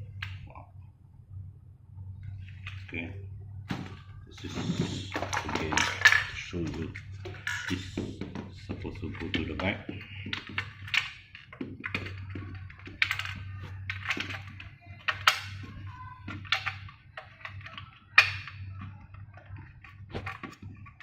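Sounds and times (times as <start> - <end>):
plastic parts clicking and rattling: 3.7 - 21.0.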